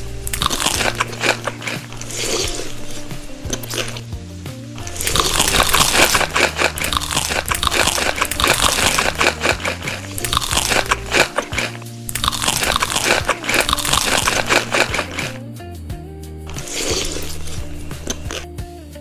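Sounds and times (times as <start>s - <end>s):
crunchy food being chewed: 0.0s - 4.2s, 4.8s - 15.4s, 16.5s - 18.5s
background music: 0.0s - 19.0s.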